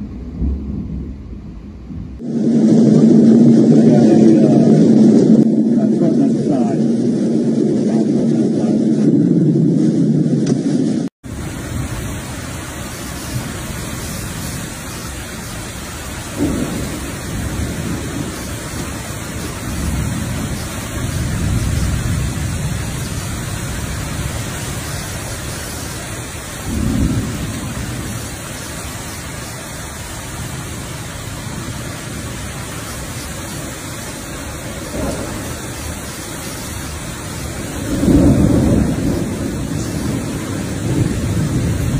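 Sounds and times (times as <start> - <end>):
heavy rain: 0.0 - 41.9
storm wind gusts: 0.0 - 41.9.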